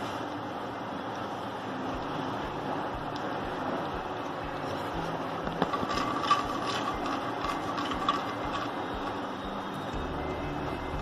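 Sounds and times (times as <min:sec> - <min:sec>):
seeds sizzling and popping in oil: 0:01.9 - 0:11.0.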